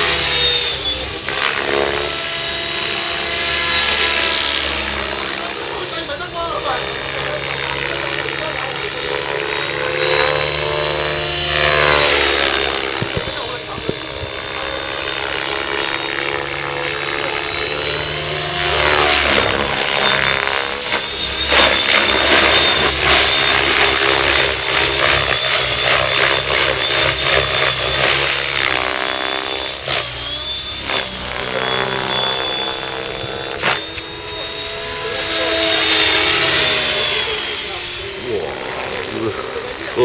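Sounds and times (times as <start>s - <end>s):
electric motor high whine: 0.0s - 40.0s
helicopter rotor blades buzzing: 0.0s - 40.0s.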